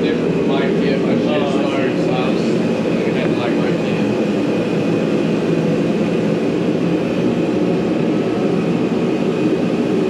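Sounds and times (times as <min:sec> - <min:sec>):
loud mechanical drone: 0:00.0 - 0:10.0.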